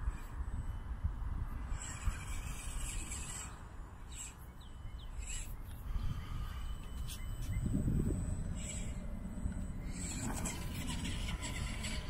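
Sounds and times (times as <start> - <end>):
steady low rumble: 0.0 - 12.0
birds calling: 1.6 - 12.0.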